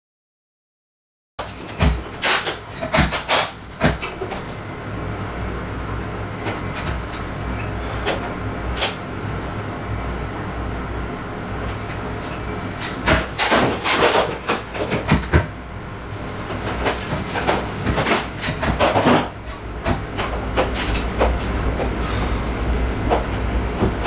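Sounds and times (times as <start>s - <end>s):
steady low hum: 3.5s - 24.0s.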